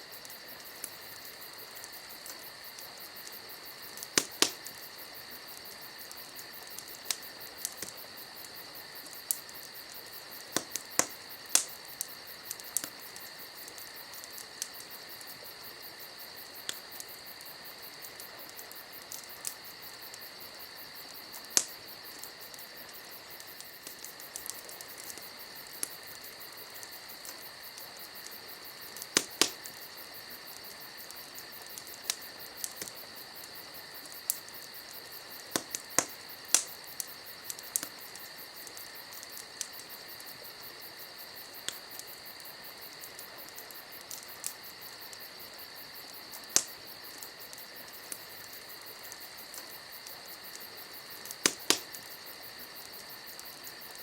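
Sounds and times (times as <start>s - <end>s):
campfire crackling: 0.0s - 54.0s
crickets chirring: 0.0s - 54.0s.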